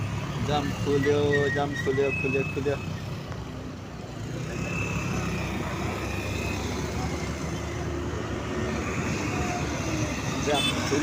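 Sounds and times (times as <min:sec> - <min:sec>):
bus and cars passing: 0:00.0 - 0:11.0
road rumble: 0:00.0 - 0:11.0.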